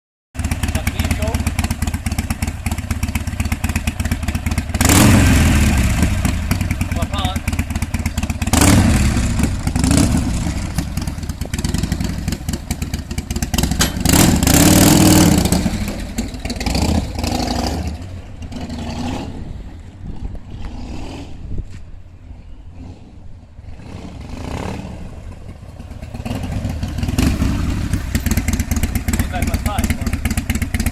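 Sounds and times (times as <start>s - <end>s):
motorcycle engine idling and revving: 0.4s - 30.9s.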